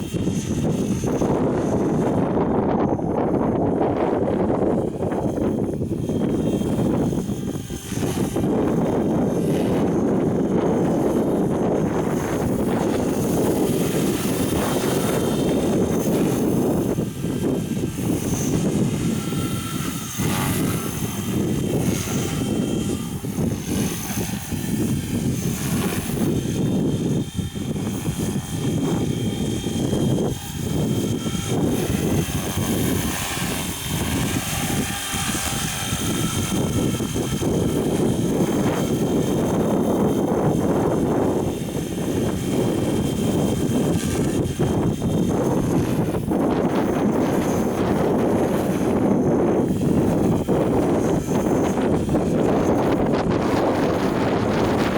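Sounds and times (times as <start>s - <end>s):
model helicopter rotor whir: 0.0s - 54.9s
wind rumbling on microphone: 0.0s - 54.9s.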